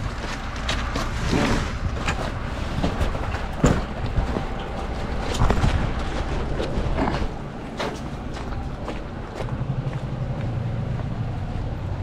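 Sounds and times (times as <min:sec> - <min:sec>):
railcar low rumble: 0:00.0 - 0:12.0.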